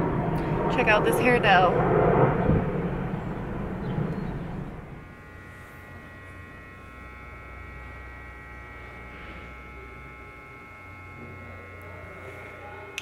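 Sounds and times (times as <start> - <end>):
electrical hum with high tones: 0.0 - 13.0.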